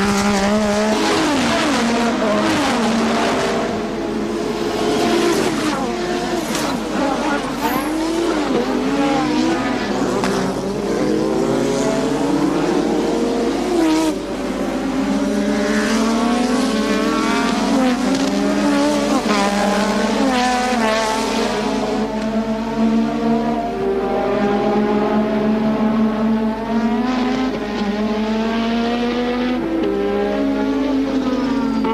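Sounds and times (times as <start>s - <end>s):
racing car engines: 0.0s - 31.9s.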